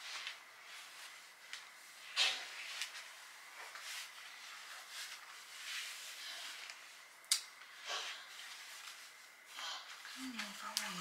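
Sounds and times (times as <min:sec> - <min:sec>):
clothes rustling: 0:00.0 - 0:11.0.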